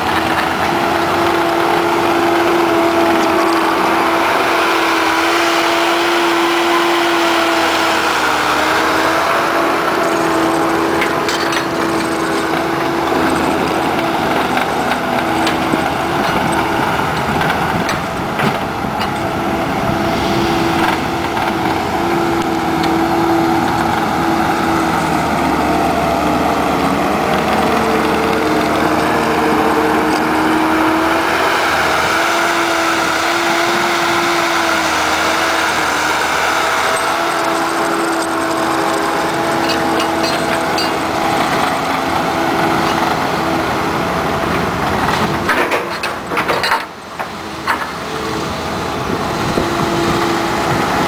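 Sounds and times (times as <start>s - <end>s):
diesel engine running under load: 0.0s - 51.0s.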